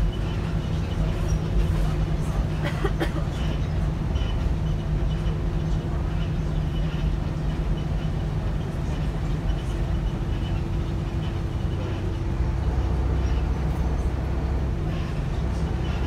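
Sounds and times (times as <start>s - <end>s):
bus diesel engine drone: 0.0s - 16.0s
clicks and rattles in bus: 0.0s - 16.0s.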